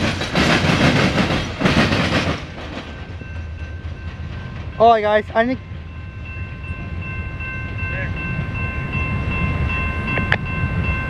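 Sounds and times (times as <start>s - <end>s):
train cars rumbling: 0.0s - 11.0s.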